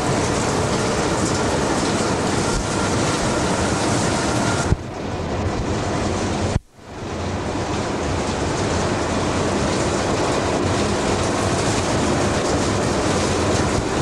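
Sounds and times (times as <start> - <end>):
locomotive cab running rumble: 0.0 - 14.0.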